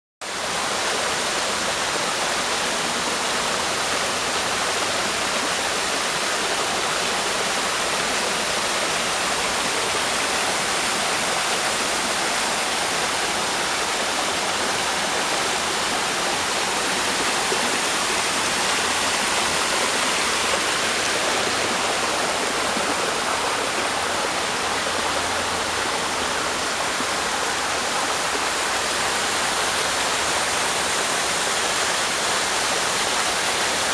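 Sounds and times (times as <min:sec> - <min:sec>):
rushing flowing water: 0:00.2 - 0:33.9.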